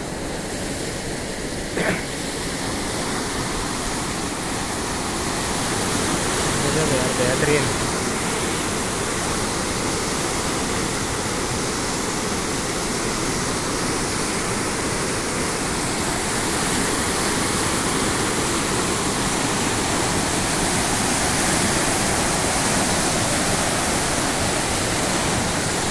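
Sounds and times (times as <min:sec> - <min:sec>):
water rushing over weir: 0:00.0 - 0:25.9.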